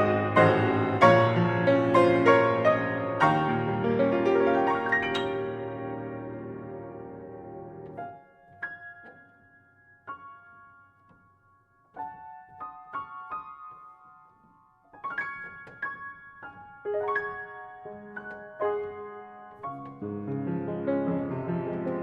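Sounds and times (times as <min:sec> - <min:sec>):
solo piano: 0:00.0 - 0:22.0.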